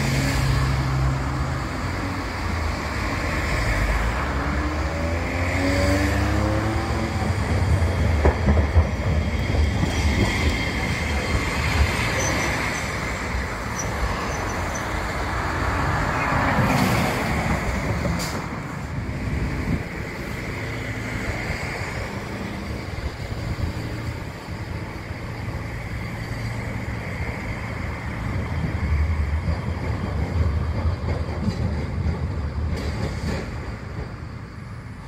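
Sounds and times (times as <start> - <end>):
road traffic: 0.0 - 35.0
tram running on track: 0.0 - 35.0.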